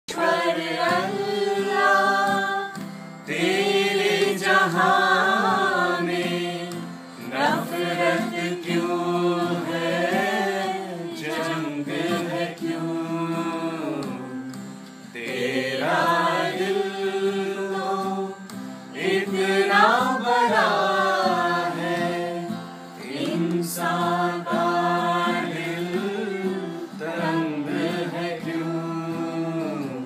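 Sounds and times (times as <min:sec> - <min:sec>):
group of voices singing: 0:00.1 - 0:30.0
strummed acoustic guitar: 0:00.1 - 0:30.0.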